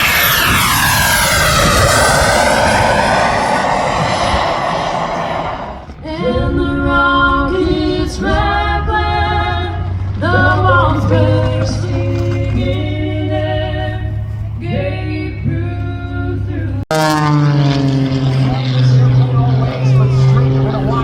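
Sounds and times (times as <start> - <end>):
airplane passing by: 0.0 - 21.0.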